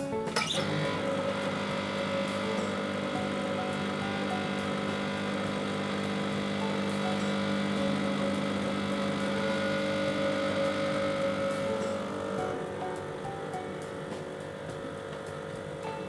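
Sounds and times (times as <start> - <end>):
espresso machine pump humming: 0.3 - 16.0.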